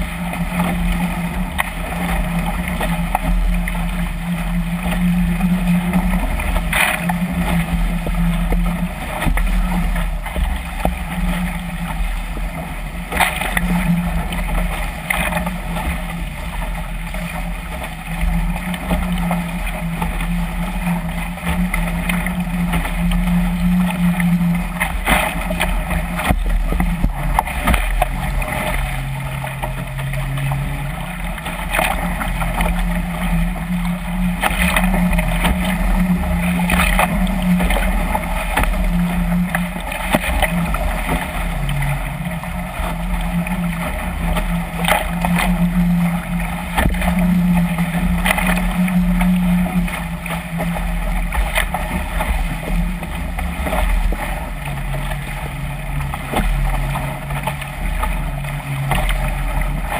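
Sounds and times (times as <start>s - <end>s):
hull slapping waves: 0.0s - 59.9s
water rushing along a hull: 0.0s - 59.9s
wind rumble on microphone: 0.0s - 59.9s.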